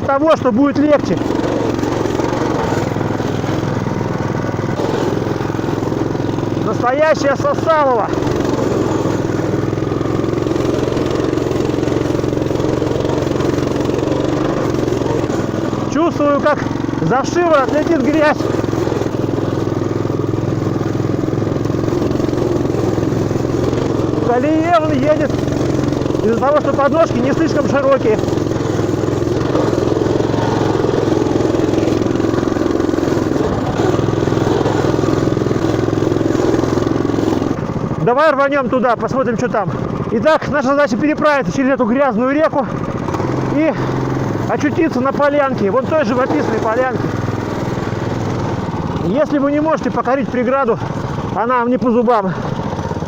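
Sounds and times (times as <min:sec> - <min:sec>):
quad bike engine running: 0:00.0 - 0:53.0.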